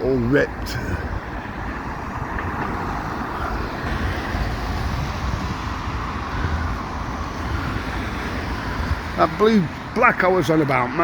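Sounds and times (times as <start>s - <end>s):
road traffic: 0.0s - 11.0s
wind buffeting microphone: 0.0s - 11.0s.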